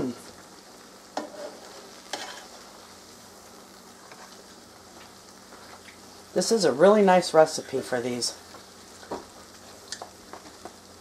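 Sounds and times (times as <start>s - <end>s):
dough sizzling in oil: 0.0s - 11.0s.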